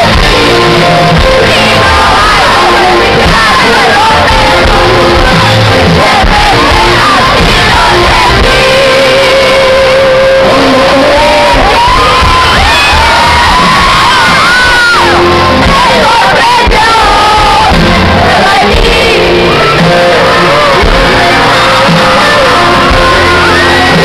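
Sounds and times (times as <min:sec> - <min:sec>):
crowd singing and shouting: 0:00.0 - 0:24.0
lead singer: 0:00.0 - 0:24.0
live rock band playing: 0:00.0 - 0:24.0.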